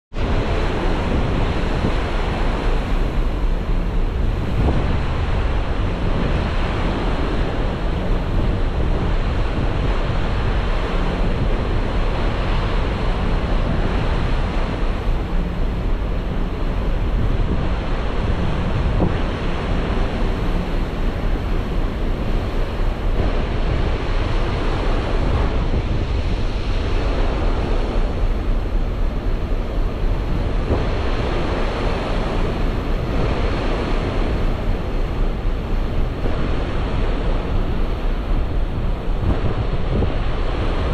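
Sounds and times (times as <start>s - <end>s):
sea wash: 0.1s - 40.9s
wind rushing over microphone: 0.1s - 40.9s.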